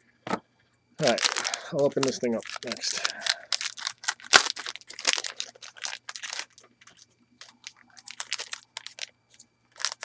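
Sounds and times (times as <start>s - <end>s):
wrapper tearing and crinkling: 1.0s - 9.1s, 9.7s - 10.0s.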